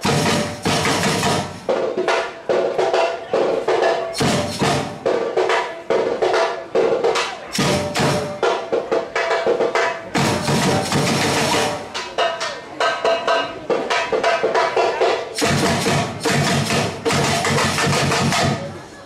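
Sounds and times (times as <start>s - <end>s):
samba drum group playing: 0.0s - 19.0s.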